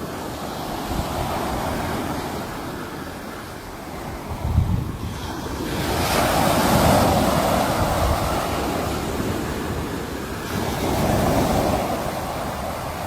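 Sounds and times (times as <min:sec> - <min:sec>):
sea waves surging: 0:00.0 - 0:13.0.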